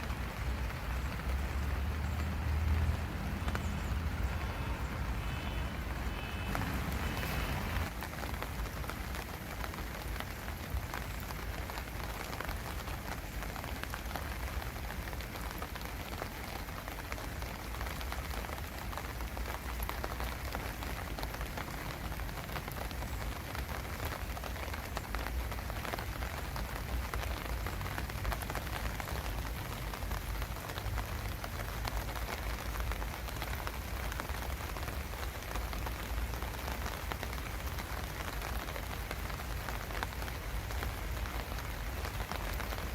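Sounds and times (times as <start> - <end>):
rain drops pattering: 0.0 - 42.9.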